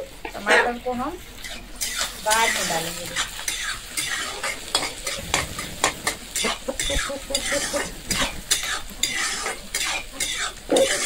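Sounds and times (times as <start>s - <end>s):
onions frying in oil: 0.0s - 11.0s
utensil scraping and knocking pan: 1.4s - 11.0s.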